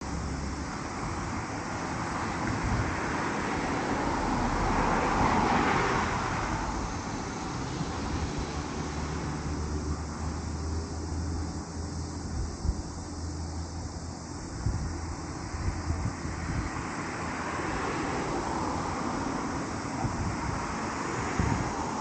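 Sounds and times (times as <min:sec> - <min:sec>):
car passing: 0:00.0 - 0:22.0
low rumble of traffic: 0:00.0 - 0:22.0
wind on microphone: 0:00.0 - 0:22.0.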